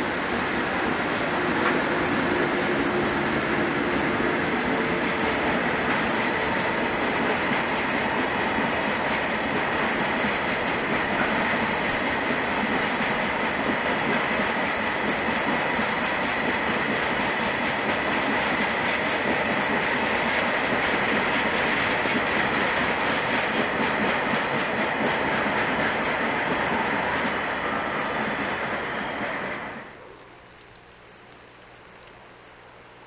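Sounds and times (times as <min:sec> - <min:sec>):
clickety-clack of rail joints: 0:00.0 - 0:29.9
freight train wheels on rails: 0:00.0 - 0:30.0.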